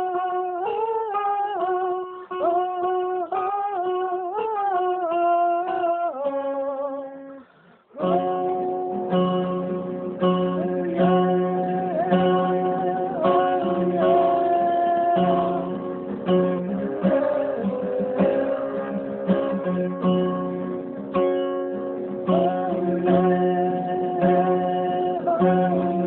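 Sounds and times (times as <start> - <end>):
person singing: 0.0 - 20.7, 21.8 - 26.0
acoustic guitar strumming: 0.0 - 26.0.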